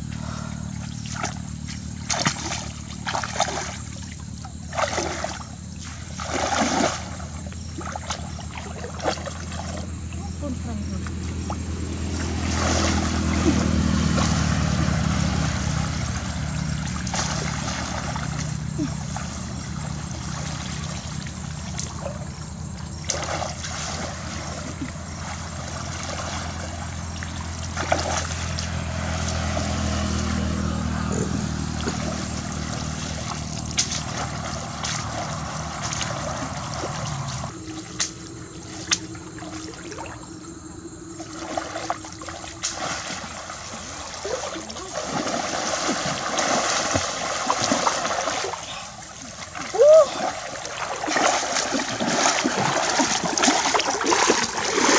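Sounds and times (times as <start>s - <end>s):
steady low hum: 0.0s - 54.9s
water sloshing and splashing: 0.0s - 54.9s.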